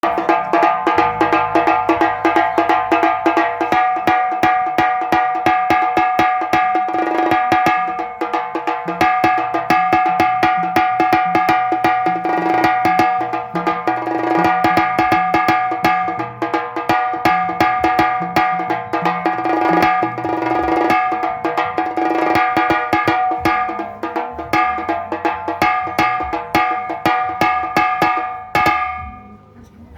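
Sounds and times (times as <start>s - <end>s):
drum rolls with sticks: 0.0s - 29.5s
deeper drum beating: 0.0s - 29.6s.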